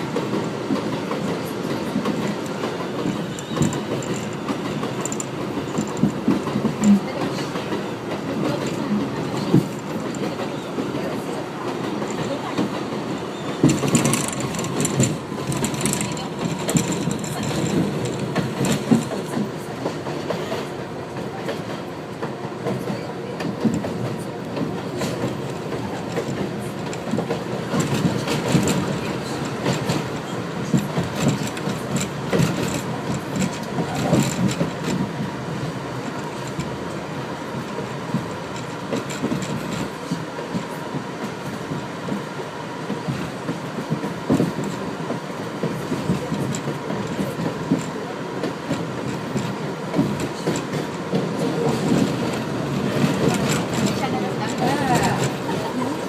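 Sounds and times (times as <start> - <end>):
subway train rumble: 0.0 - 56.0
wheels clattering over rail joints: 0.0 - 56.0.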